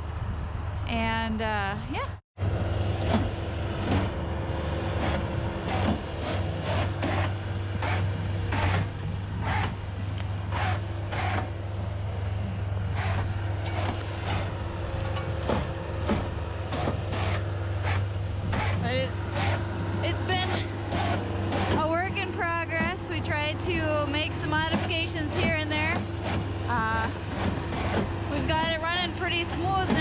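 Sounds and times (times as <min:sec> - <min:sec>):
diesel engine running: 0:02.4 - 0:30.0.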